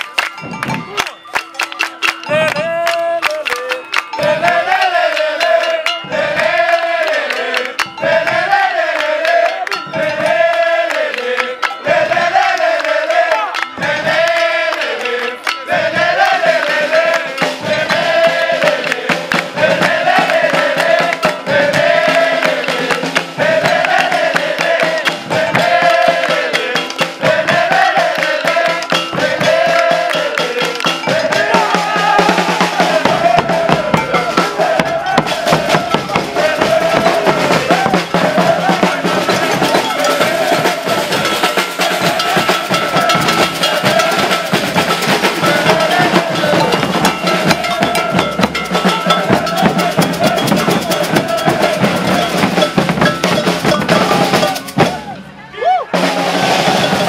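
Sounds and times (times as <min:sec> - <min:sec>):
snare drums: 0:00.0 - 0:55.3, 0:55.9 - 0:57.0
group of voices singing: 0:01.7 - 0:55.3, 0:55.9 - 0:57.0
bass drums beating: 0:02.2 - 0:03.4, 0:04.1 - 0:07.1, 0:07.8 - 0:10.6, 0:13.7 - 0:14.6, 0:15.7 - 0:55.2.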